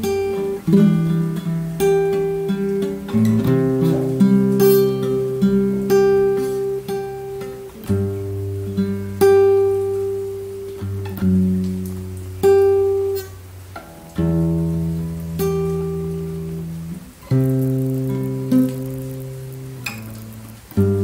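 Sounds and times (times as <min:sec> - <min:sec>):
fingerpicked acoustic guitar: 0:00.0 - 0:21.0.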